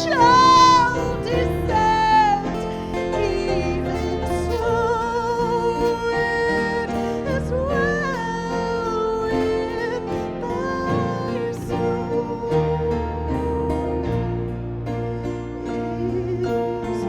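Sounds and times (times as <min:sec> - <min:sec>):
instrumental accompaniment: 0:00.0 - 0:17.0
person singing with vibrato: 0:00.0 - 0:17.0.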